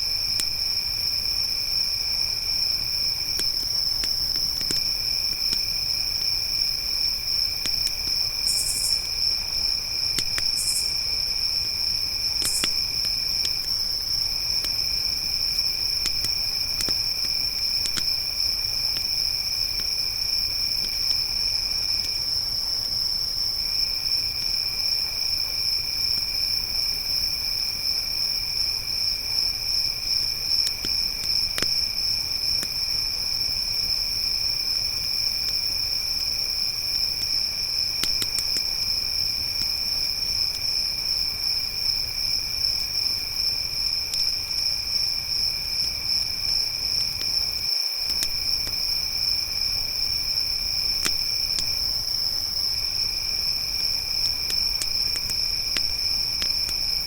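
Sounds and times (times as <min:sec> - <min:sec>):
campfire pops and crackles: 0:00.0 - 0:27.2, 0:28.0 - 0:57.0
crickets chirring: 0:00.0 - 0:57.0
lower insect trill: 0:00.0 - 0:57.0.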